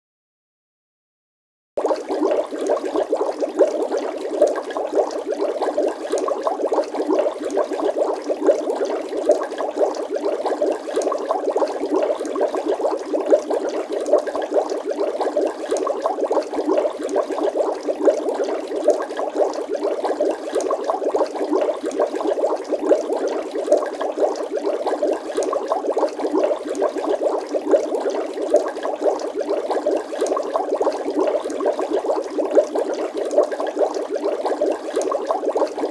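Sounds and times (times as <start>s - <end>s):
water bubbling: 1.8s - 35.9s.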